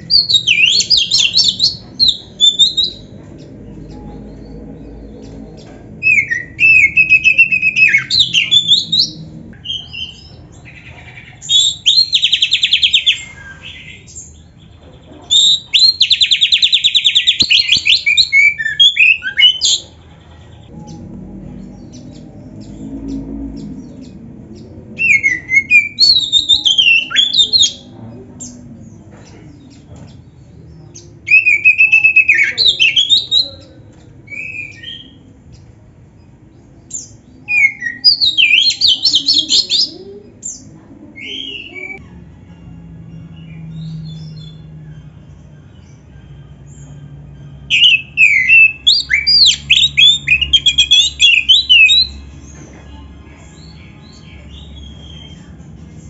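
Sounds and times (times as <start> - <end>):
magpie-robin singing: 0.0 - 42.1, 43.1 - 56.0.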